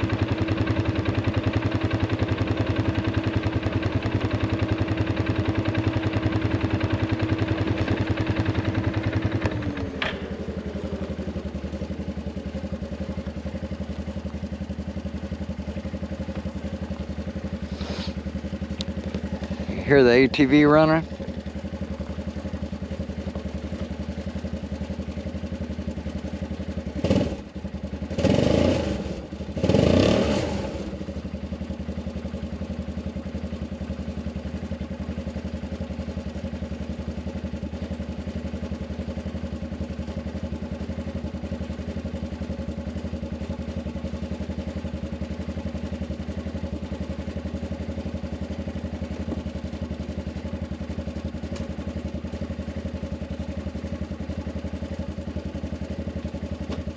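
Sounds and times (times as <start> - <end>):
atv engine idling: 0.0 - 56.9.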